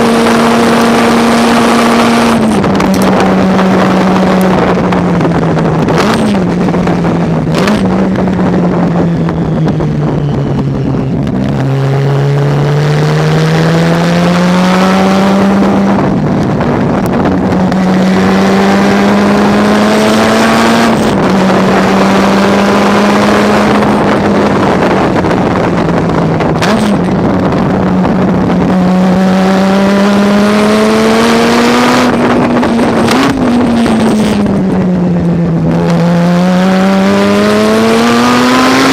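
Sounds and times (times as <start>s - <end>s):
racing car engine running hard: 0.0s - 38.9s.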